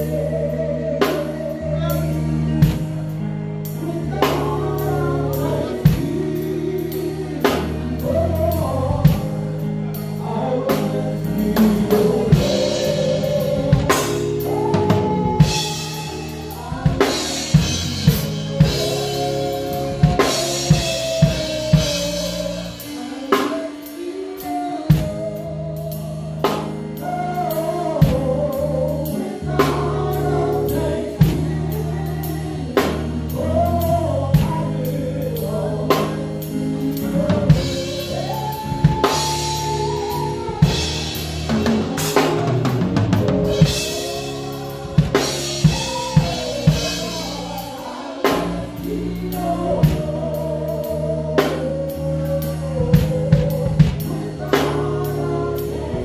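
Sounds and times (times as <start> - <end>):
band holding low notes: 0.0 - 56.0
drum kit playing: 0.0 - 56.0
people singing: 0.0 - 56.0.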